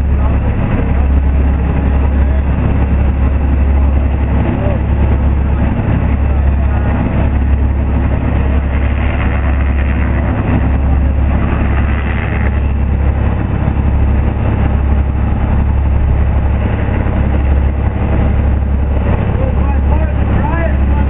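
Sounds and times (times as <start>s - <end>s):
boat diesel engines droning: 0.0s - 21.0s
churning wake water: 0.0s - 21.0s.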